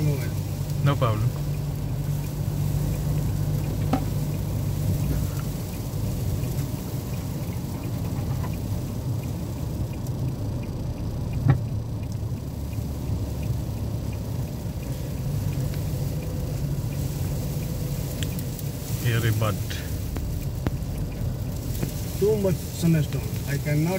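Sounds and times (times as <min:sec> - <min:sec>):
car cabin rumble: 0:00.0 - 0:23.9
faint light ticks: 0:00.0 - 0:23.9.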